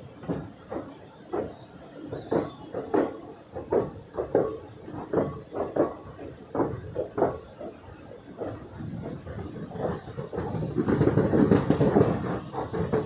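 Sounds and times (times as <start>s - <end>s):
train rolling noise: 0.0s - 13.0s
train wheels clunking over rail joints: 0.0s - 13.0s.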